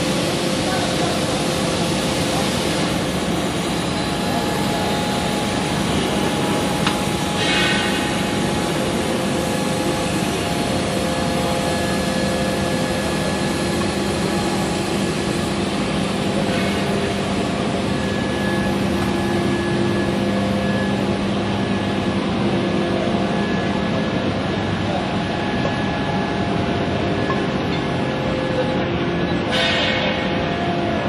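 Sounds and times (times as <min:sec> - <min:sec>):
machinery drone with humming tones: 0:00.0 - 0:31.0.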